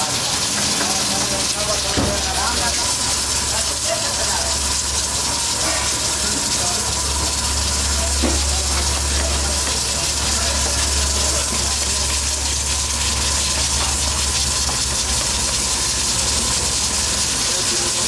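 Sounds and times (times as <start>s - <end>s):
gas burner flames roaring: 0.0s - 18.0s.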